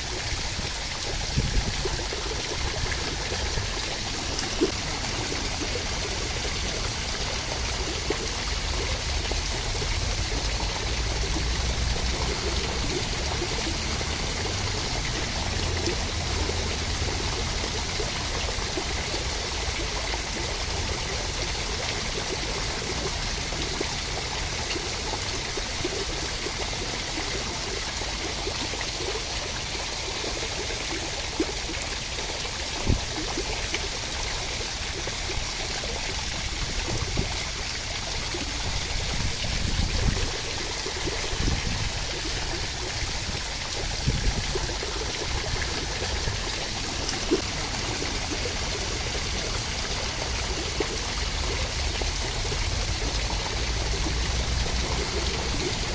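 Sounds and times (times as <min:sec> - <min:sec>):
water drips and patters: 0:00.0 - 0:55.9
steady rain: 0:01.8 - 0:27.9, 0:28.6 - 0:55.9.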